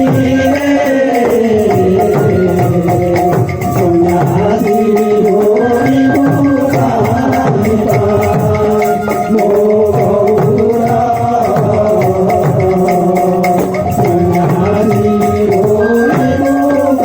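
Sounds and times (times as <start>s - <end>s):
held melody: 0.0s - 17.0s
small cymbals beat: 0.0s - 17.0s.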